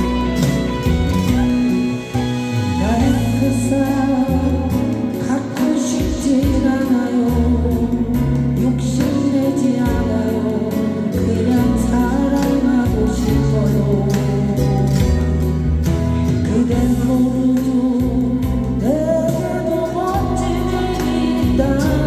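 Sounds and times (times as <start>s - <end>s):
instrumental accompaniment: 0.0s - 22.0s
person singing: 0.0s - 22.0s.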